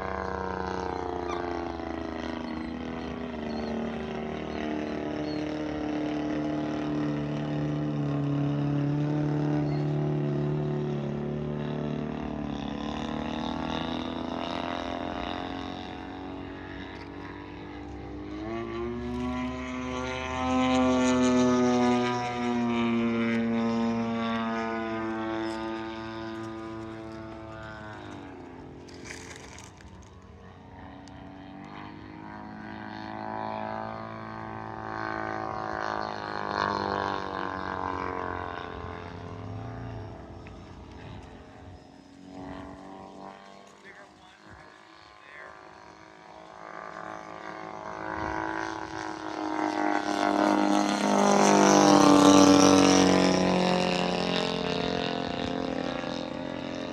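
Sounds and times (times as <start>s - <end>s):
model airplane engine passing: 0.0s - 56.9s.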